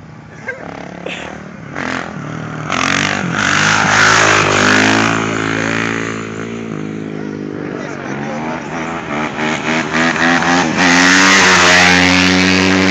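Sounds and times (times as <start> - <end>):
dirt bike engine passing by: 0.5 - 12.9.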